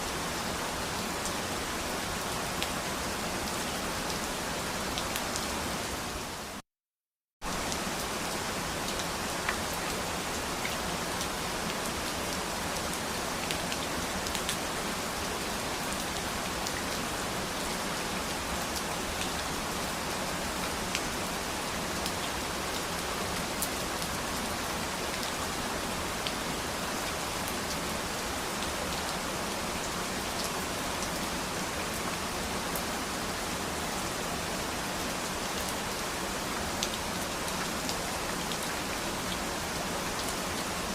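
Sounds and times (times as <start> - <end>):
steady rain falling: 0.0 - 6.6, 7.4 - 40.9.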